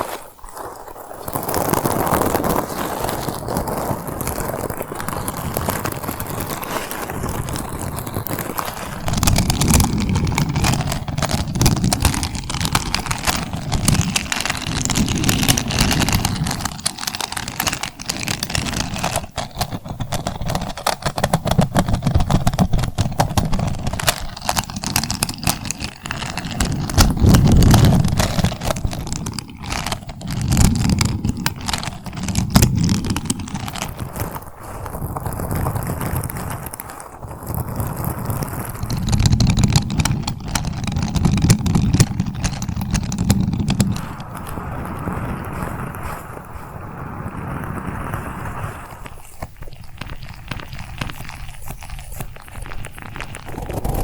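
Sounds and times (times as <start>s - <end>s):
rapid crackling clicks: 1.0s - 54.0s.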